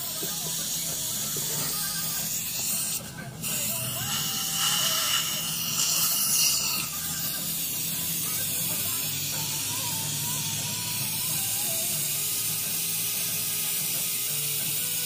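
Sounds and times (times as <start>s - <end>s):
dental suction tube hissing: 0.2s - 15.0s.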